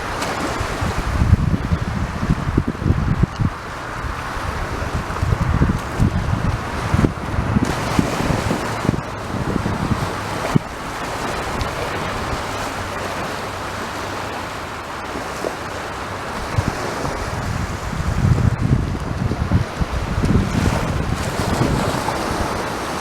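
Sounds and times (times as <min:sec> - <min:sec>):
sea surf washing onto beach: 0:00.0 - 0:23.0
wind buffeting microphone: 0:00.0 - 0:23.0.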